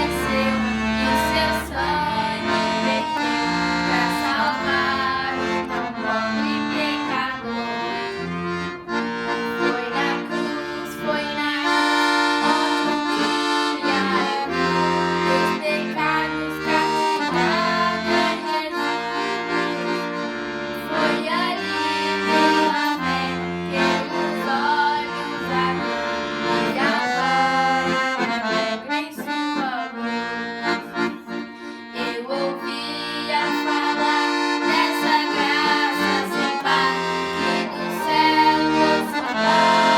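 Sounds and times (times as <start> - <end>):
accordion playing a melody: 0.0 - 39.9.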